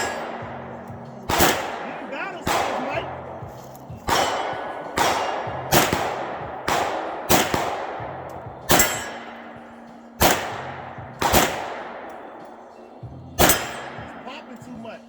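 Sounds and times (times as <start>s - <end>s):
gunshots with echoing tail: 0.0s - 15.0s.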